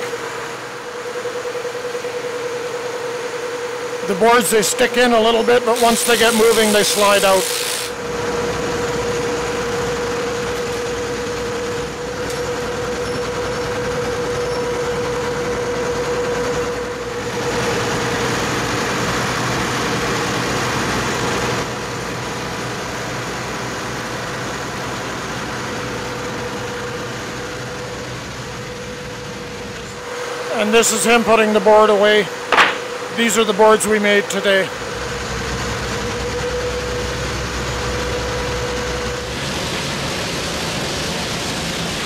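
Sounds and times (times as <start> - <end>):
machine drone with whine: 0.0 - 42.0.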